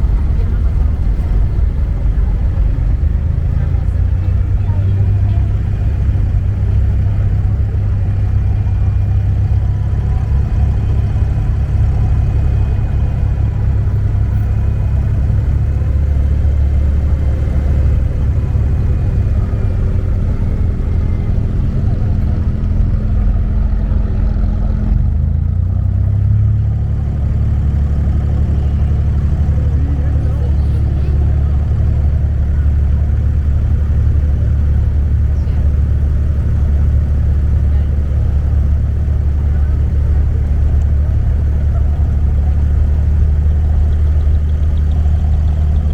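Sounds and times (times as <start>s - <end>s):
boat engine drone: 0.0s - 45.9s.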